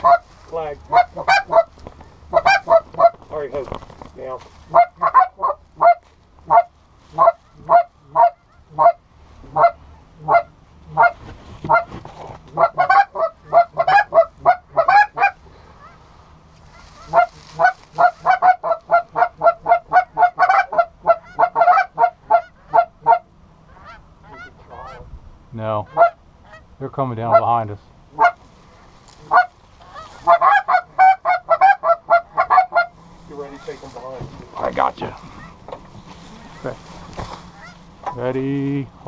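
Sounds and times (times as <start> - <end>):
geese honking: 0.0 - 3.5, 4.4 - 25.1, 25.8 - 38.4.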